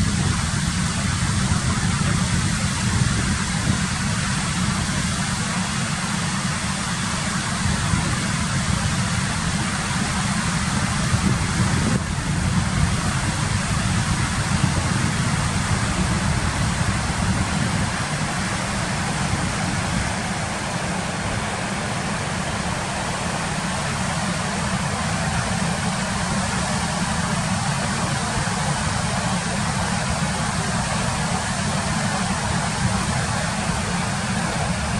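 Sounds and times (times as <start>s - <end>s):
waterfall rushing over boulders: 0.0s - 34.9s.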